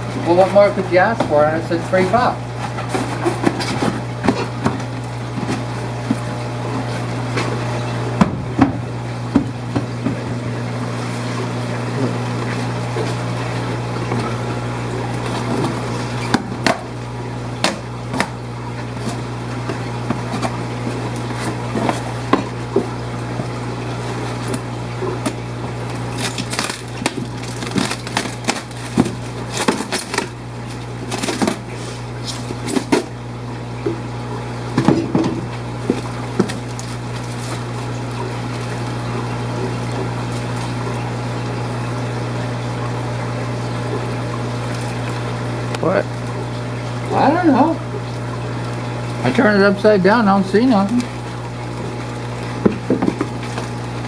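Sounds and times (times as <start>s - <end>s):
aquarium pumps humming and bubbling: 0.0s - 54.0s.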